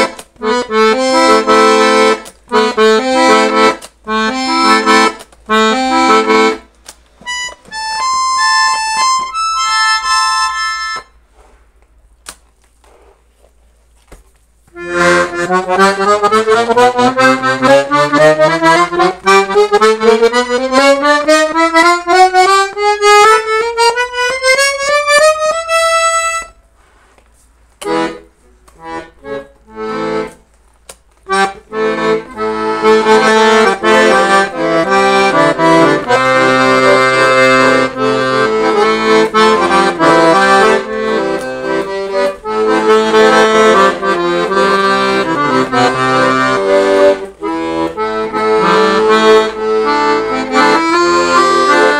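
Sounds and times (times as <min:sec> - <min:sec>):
piano accordion playing: 0:00.0 - 0:11.6, 0:14.7 - 0:26.8, 0:27.8 - 0:30.5, 0:31.2 - 0:51.9.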